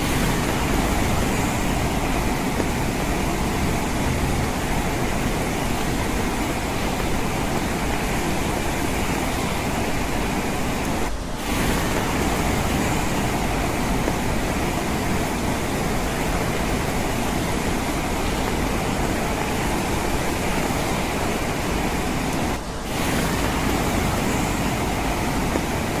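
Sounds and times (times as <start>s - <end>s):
rain on a window pane: 0.0s - 26.0s.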